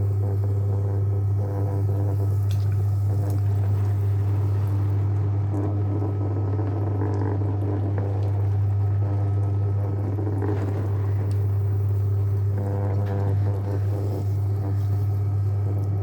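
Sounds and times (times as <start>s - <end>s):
pottery wheel motor hum: 0.0s - 16.0s.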